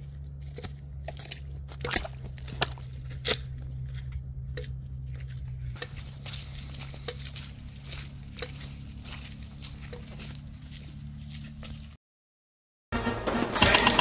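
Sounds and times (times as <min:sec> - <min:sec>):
boots stepping through mud and grass: 0:00.0 - 0:12.0
steady low hum: 0:00.0 - 0:12.0.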